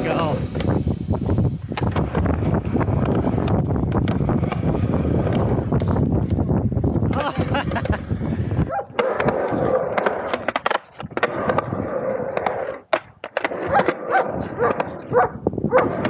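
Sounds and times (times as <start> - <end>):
skateboard wheels rolling on concrete: 0.0 - 16.0
skateboard clacks: 1.6 - 16.0.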